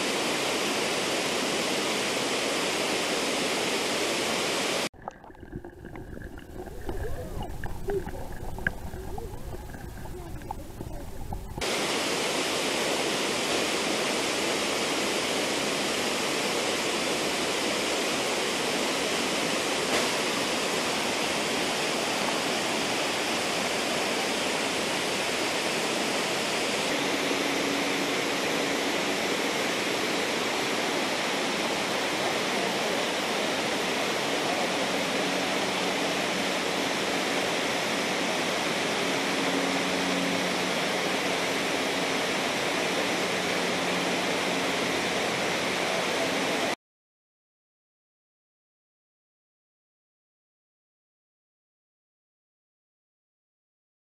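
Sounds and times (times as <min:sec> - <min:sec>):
flowing river water: 0:00.0 - 0:46.7.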